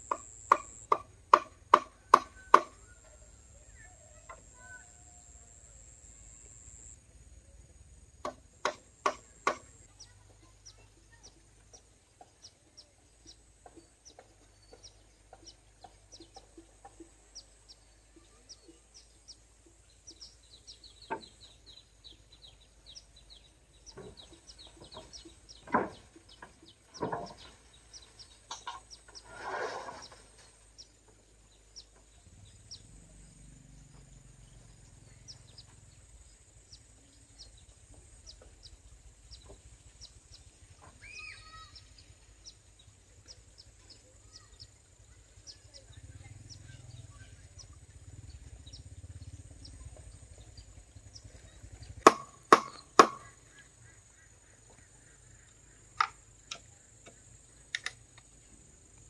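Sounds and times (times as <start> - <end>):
birds chirping: 7.7 - 59.0.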